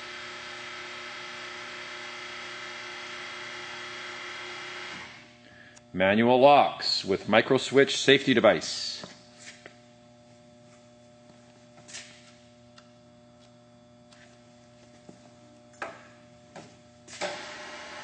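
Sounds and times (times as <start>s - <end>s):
faint electrical hum: 2.5s - 18.0s.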